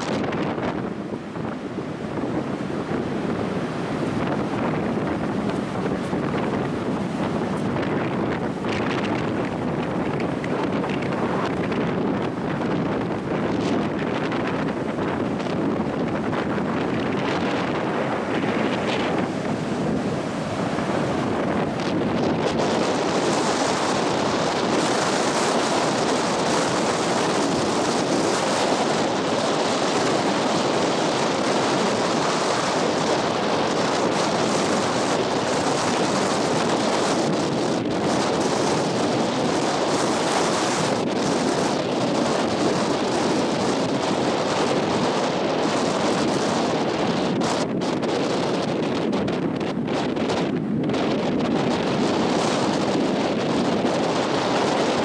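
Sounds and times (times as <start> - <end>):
ocean surf rushing: 0.0 - 55.0
wind buffeting microphone: 0.0 - 55.0.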